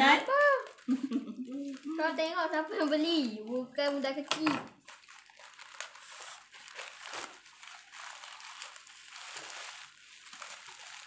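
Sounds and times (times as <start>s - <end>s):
plastic bag and bubble wrap rustling: 0.0s - 11.0s.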